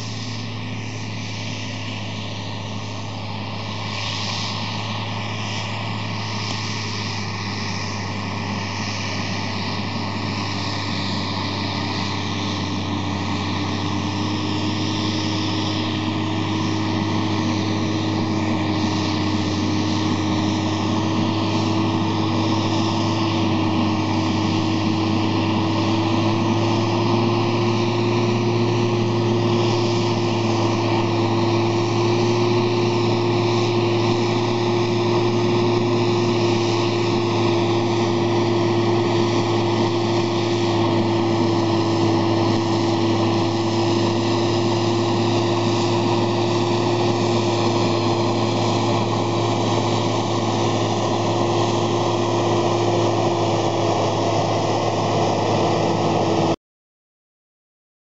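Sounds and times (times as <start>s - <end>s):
tractor diesel engine under load: 0.0s - 56.6s.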